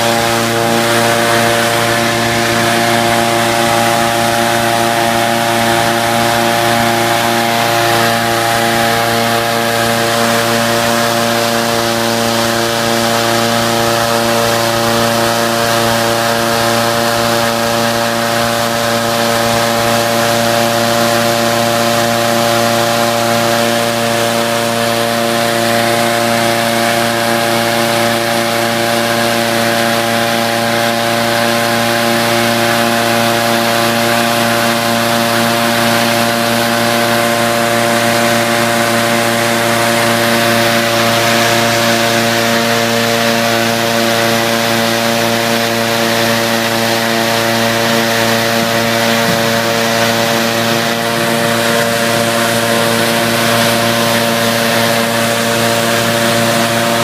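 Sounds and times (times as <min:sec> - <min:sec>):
inflator fan engine running: 0:00.0 - 0:57.0
propane burner firing: 0:00.0 - 0:57.0.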